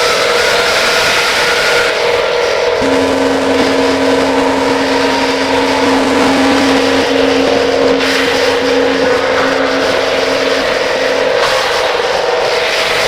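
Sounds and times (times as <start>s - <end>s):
harsh distorted noise: 0.0s - 13.0s
steady droning tones: 0.0s - 13.0s.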